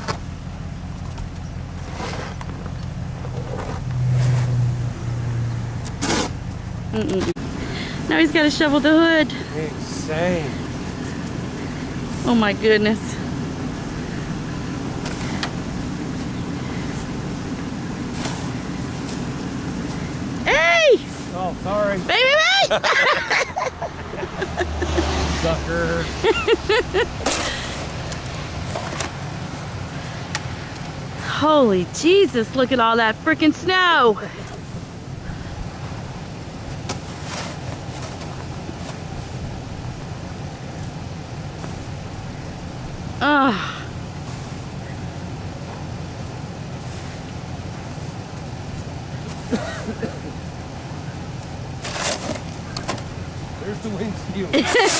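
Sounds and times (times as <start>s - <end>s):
vehicle engine humming: 0.0s - 54.9s.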